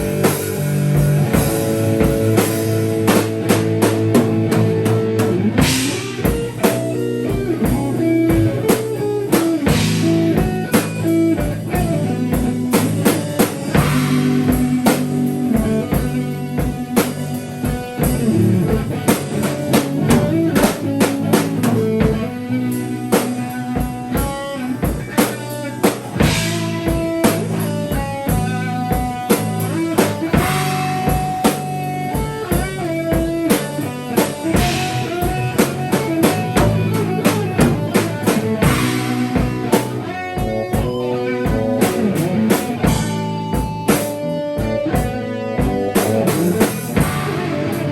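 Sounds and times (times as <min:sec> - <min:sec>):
drum kit beat: 0:00.0 - 0:47.9
guitar: 0:00.0 - 0:47.9
live band music: 0:00.0 - 0:47.9.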